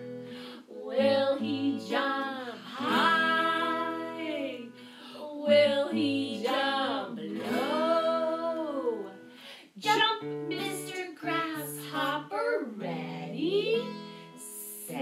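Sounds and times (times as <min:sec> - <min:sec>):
strummed acoustic guitar: 0:00.0 - 0:15.0
women singing: 0:00.4 - 0:15.0.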